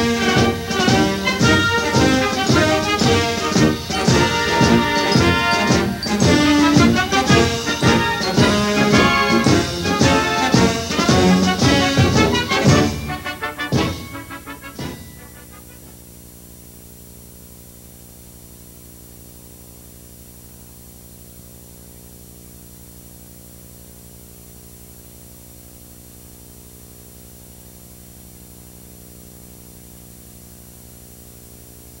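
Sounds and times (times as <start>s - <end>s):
electrical mains hum: 0.0s - 32.0s
faint tape hiss: 0.0s - 32.0s.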